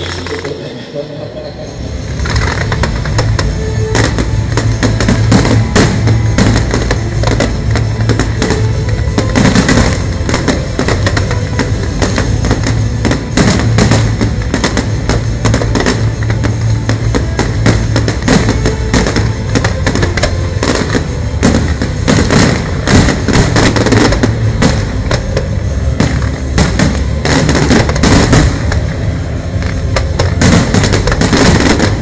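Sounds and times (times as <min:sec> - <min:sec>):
fireworks bursting: 0:00.0 - 0:32.0
music: 0:00.0 - 0:32.0.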